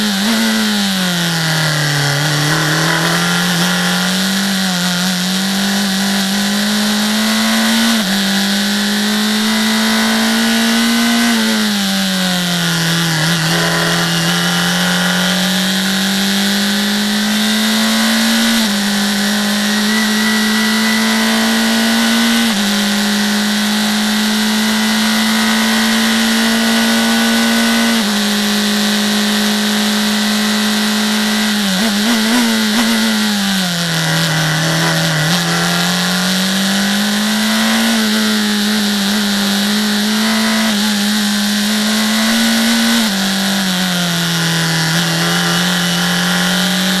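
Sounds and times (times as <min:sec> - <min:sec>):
race car engine at high revs: 0:00.0 - 0:47.0.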